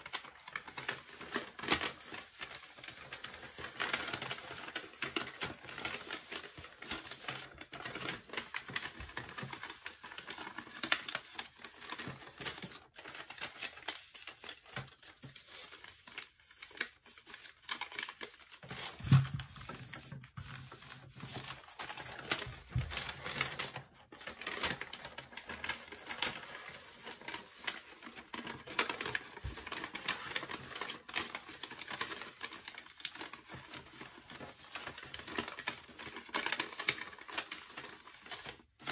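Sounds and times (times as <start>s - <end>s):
paper rustling and crackling: 0.0s - 38.9s.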